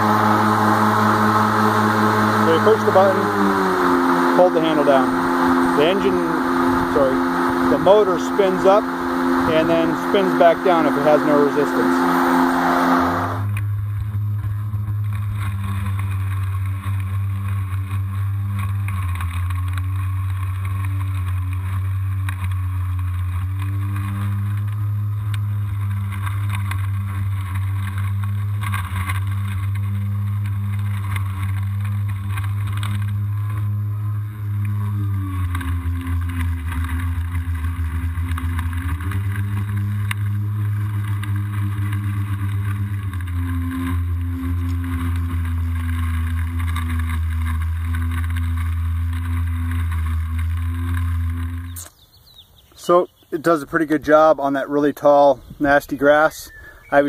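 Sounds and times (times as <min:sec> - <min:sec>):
electric lawn mower cutting grass: 0:00.0 - 0:57.0.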